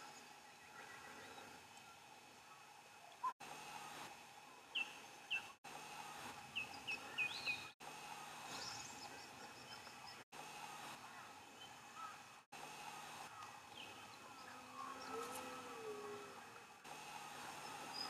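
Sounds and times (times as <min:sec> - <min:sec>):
faint bush background: 0:00.0 - 0:18.0.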